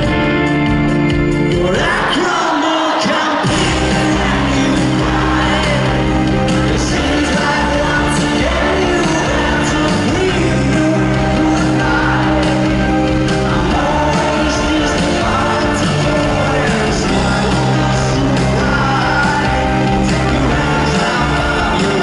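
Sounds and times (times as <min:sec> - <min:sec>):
rock band playing live: 0:00.0 - 0:22.0
crowd shouting along: 0:01.7 - 0:22.0.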